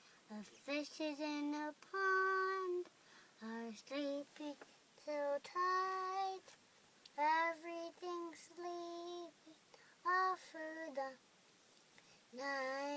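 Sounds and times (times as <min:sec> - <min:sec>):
girl singing softly: 0:00.0 - 0:11.3, 0:11.9 - 0:12.9.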